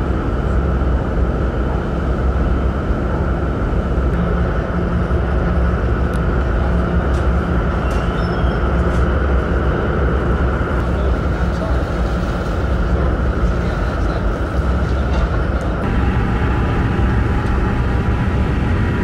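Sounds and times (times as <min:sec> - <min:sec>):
ferry diesel engines rumbling: 0:00.0 - 0:19.0.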